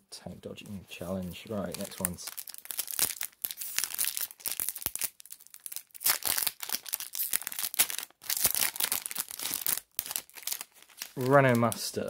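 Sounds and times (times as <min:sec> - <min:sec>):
foil wrapper crinkling and tearing: 0:01.4 - 0:12.0.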